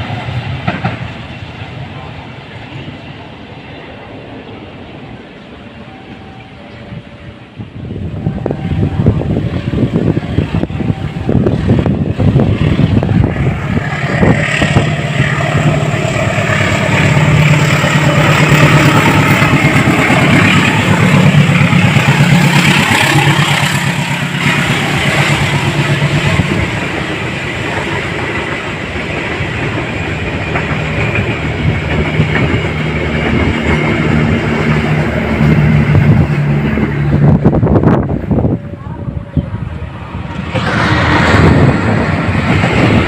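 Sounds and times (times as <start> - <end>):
rushing wheel and rail noise: 0.0 - 43.0
diesel engine drone: 4.0 - 43.0.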